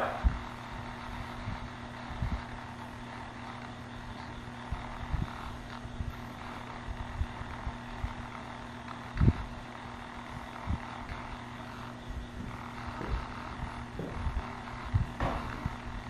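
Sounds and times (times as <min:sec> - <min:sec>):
low hum: 0:00.0 - 0:16.0
radio static hiss: 0:00.0 - 0:16.0.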